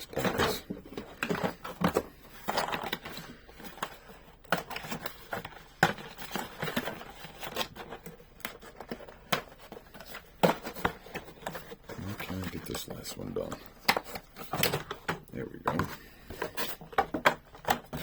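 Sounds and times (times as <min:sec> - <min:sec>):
packaging scraping and rustling: 0:00.0 - 0:18.0.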